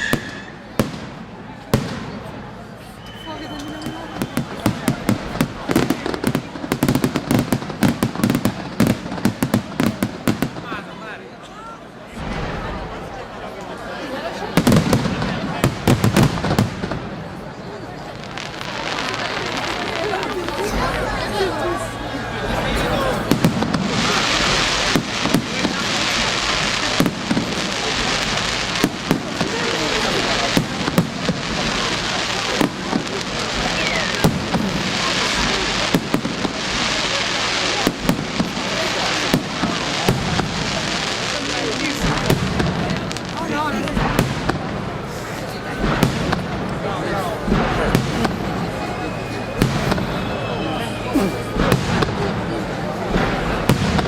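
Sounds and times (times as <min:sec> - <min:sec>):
fireworks bangs: 0:00.0 - 0:11.3, 0:12.0 - 0:54.0
fireworks crackling: 0:00.0 - 0:54.0.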